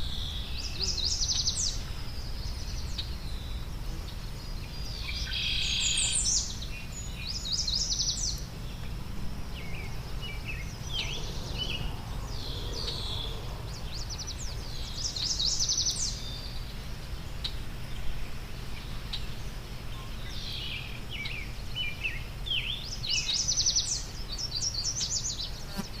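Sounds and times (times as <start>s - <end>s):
songbird trilling and chirping: 0.0s - 26.0s.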